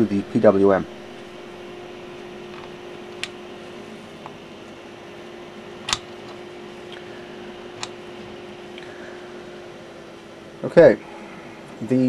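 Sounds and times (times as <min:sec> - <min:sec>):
small cooling fan hum: 0:00.0 - 0:12.0.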